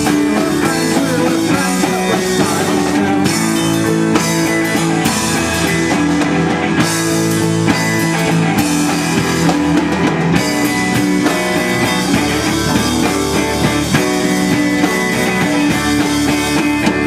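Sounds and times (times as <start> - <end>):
drum kit steady beat: 0.0 - 17.0
guitars: 0.0 - 17.0.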